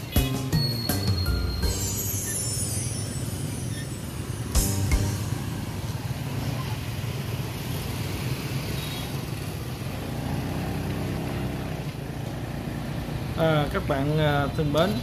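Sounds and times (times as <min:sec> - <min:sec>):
motorbike traffic engine hum: 0:00.0 - 0:15.0.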